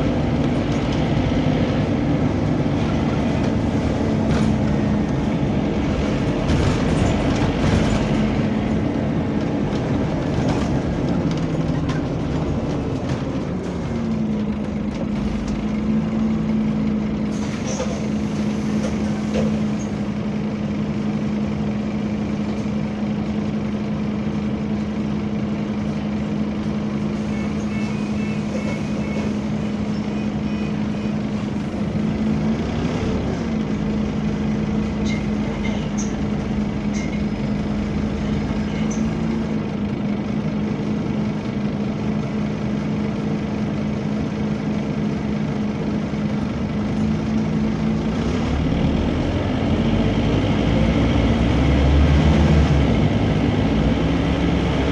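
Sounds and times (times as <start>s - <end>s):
bus running noise: 0.0s - 54.9s.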